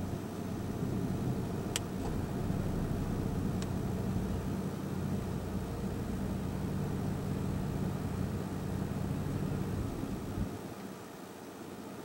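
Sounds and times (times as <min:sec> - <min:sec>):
vehicle engine idling: 0:00.0 - 0:10.6.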